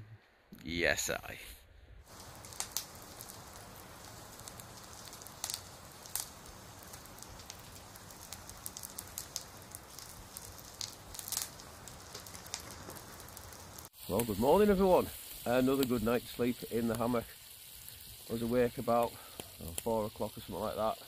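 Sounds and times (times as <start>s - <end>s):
fire low hiss: 2.0s - 21.0s.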